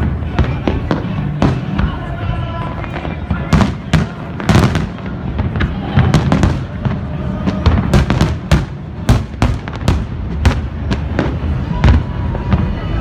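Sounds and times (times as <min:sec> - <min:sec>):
fireworks sharp bangs: 0:00.0 - 0:13.0
low rumble of fireworks barrage: 0:00.0 - 0:13.0.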